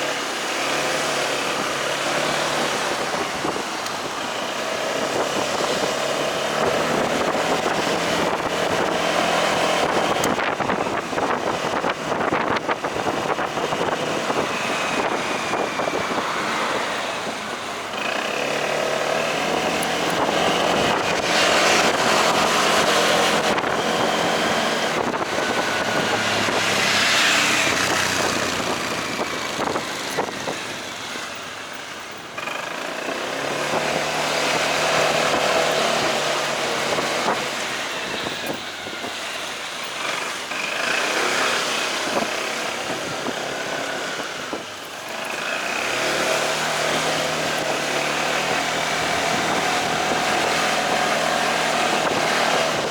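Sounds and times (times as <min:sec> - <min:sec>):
motorcycle engine running: 0:00.0 - 0:52.9
traffic noise: 0:00.0 - 0:52.9
wind: 0:00.0 - 0:52.9.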